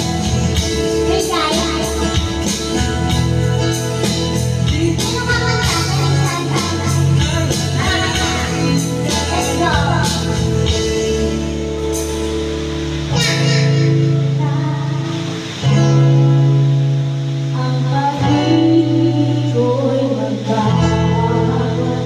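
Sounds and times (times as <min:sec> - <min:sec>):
woman singing into a microphone: 0:00.0 - 0:11.9, 0:13.4 - 0:16.5, 0:17.4 - 0:22.0
guitar chords: 0:00.0 - 0:22.0.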